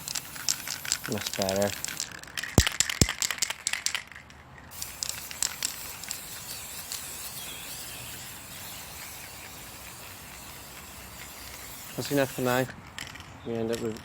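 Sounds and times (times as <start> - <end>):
spray paint can hissing: 0.0 - 4.0, 4.7 - 13.1.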